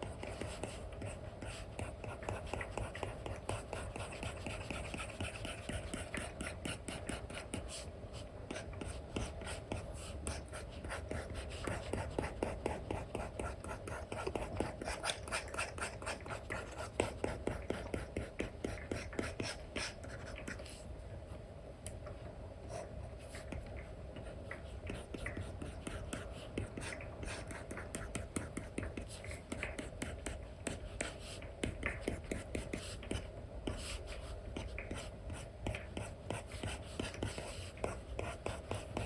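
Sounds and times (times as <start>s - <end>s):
stylus scratching and tapping screen: 0.0s - 20.8s, 23.2s - 39.0s.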